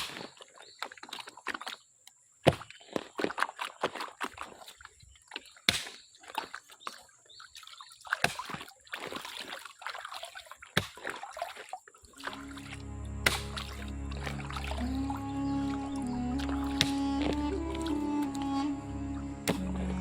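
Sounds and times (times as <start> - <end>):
water sloshing and splashing: 0.0 - 18.4, 19.1 - 20.0.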